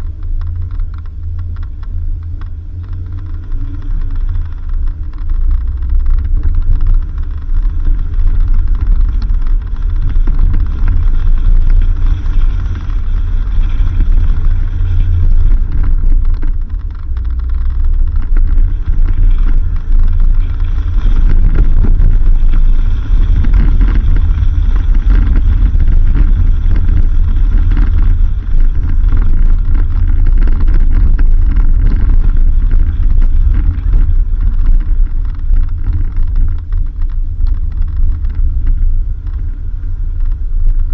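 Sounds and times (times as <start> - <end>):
vehicle driving on dirt road: 0.0 - 40.9.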